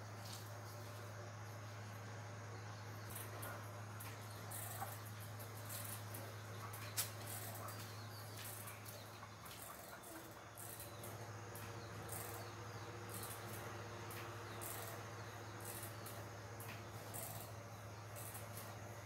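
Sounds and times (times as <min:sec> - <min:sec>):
high insect-like chirping: 0:00.0 - 0:19.0
steady low hum: 0:00.0 - 0:19.0.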